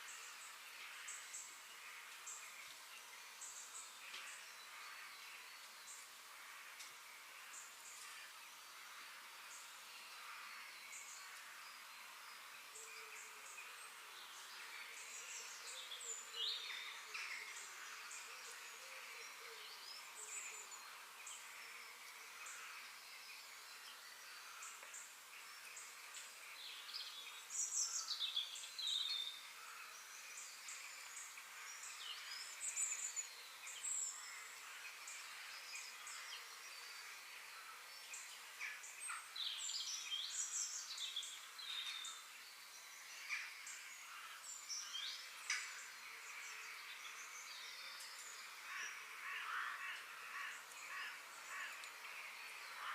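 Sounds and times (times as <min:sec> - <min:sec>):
outdoor ambience hiss: 0:00.0 - 0:52.9
birds chirping and singing: 0:09.5 - 0:52.9.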